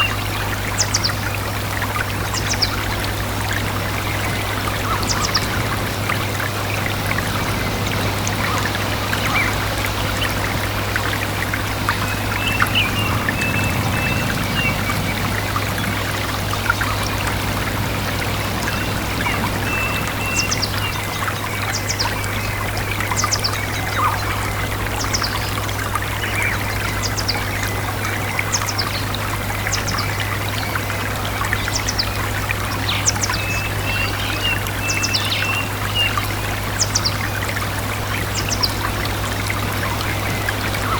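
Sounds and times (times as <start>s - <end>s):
stream trickling and babbling: 0.0s - 40.9s
birds chirping: 2.0s - 40.9s.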